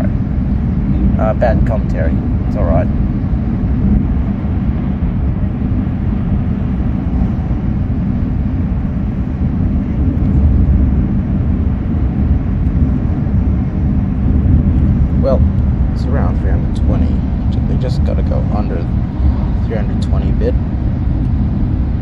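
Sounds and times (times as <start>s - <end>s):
train cabin rumble and rushing: 0.0s - 22.0s.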